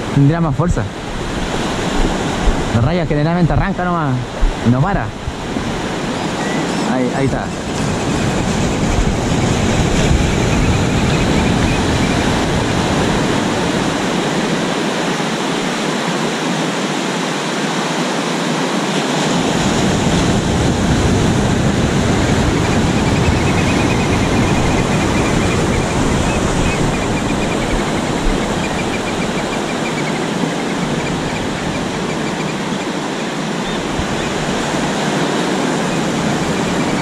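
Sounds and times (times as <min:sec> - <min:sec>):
wind buffeting microphone: 0:00.0 - 0:16.9, 0:19.1 - 0:37.0
surf breaking on sand: 0:00.0 - 0:37.0.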